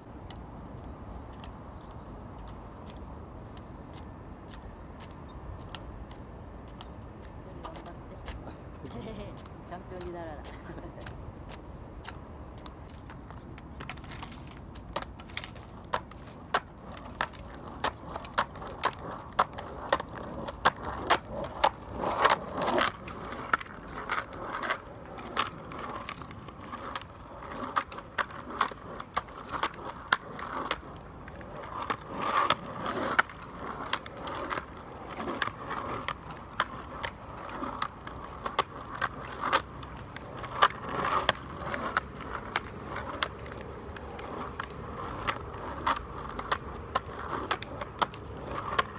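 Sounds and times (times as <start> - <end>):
skateboard rolling on pavement: 0.0 - 48.9
skateboard wheel clicks: 0.2 - 48.9.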